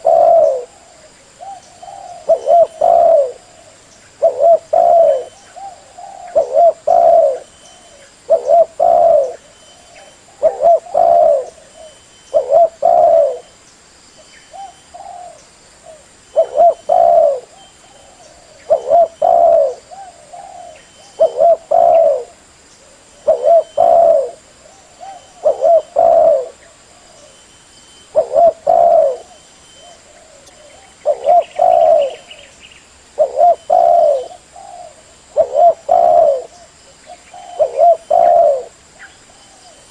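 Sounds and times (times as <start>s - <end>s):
dove cooing: 0.0s - 13.5s, 14.5s - 27.4s, 28.1s - 32.6s, 33.2s - 39.9s.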